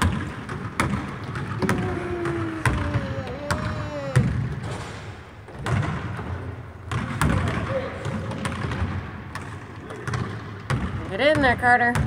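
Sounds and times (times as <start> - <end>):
basketball bouncing on gym floor: 0.0 - 12.0.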